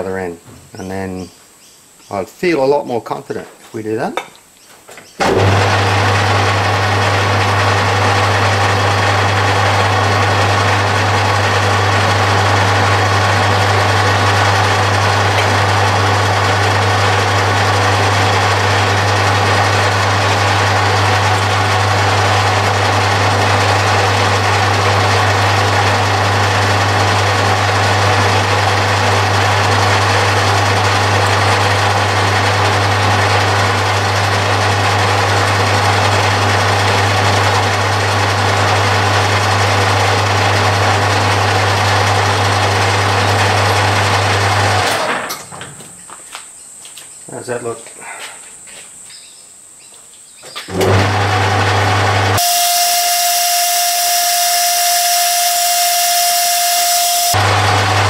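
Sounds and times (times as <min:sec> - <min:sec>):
metal lathe humming: 0:05.2 - 0:45.1, 0:50.7 - 0:58.0.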